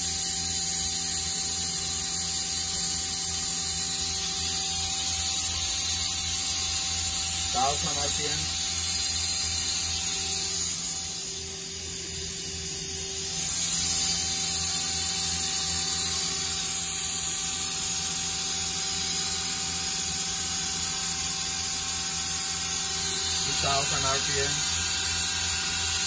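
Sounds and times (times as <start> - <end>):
machine whine over hiss: 0.0 - 26.0.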